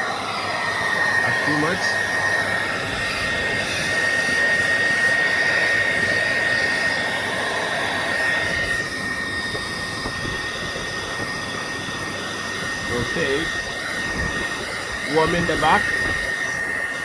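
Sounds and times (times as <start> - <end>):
hot-air gun blowing with whine: 0.0 - 17.0.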